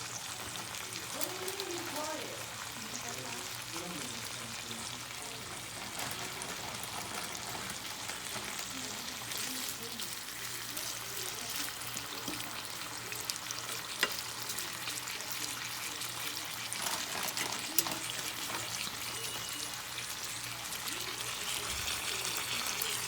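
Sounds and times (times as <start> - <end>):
chicken sizzling in a pan: 0.0 - 23.0.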